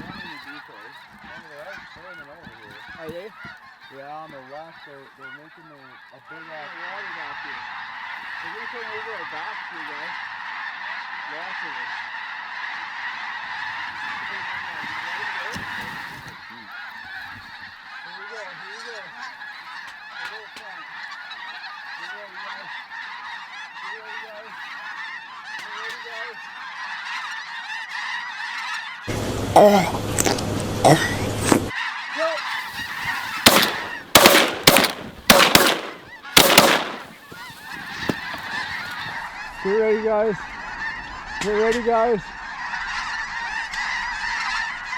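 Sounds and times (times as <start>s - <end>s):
flock of geese calling: 0.0s - 30.4s, 31.0s - 44.9s.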